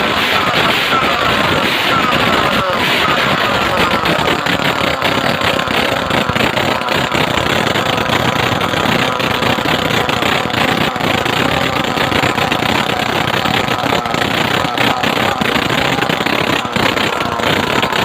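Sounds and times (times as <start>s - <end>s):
brush-cutter engine running loudly: 0.0s - 18.0s.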